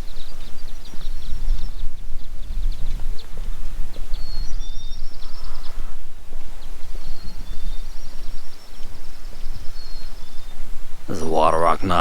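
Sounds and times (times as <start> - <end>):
songbird trilling: 0.0 - 12.0.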